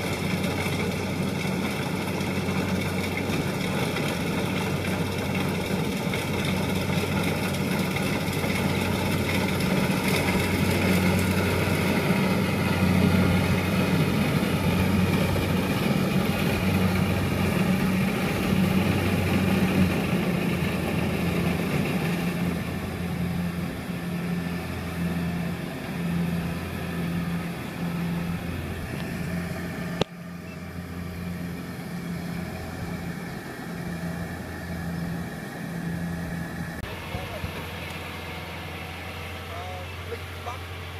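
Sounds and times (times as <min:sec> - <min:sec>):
combine harvester diesel engine running: 0:00.0 - 0:40.9.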